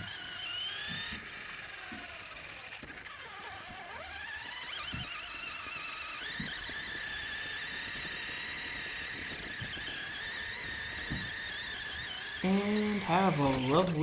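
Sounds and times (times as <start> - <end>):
toy car motor whining: 0.0 - 14.0.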